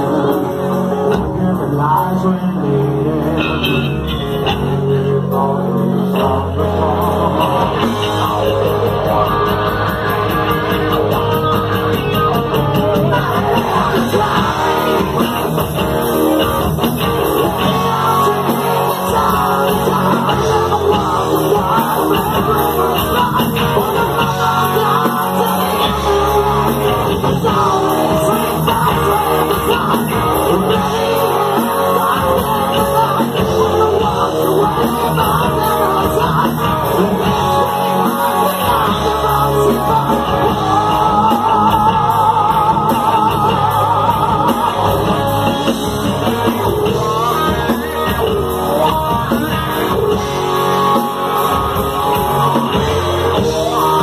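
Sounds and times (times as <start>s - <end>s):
bass guitar: 0.0s - 54.0s
drum kit: 0.0s - 54.0s
electric guitars: 0.0s - 54.0s
person singing: 0.0s - 54.0s.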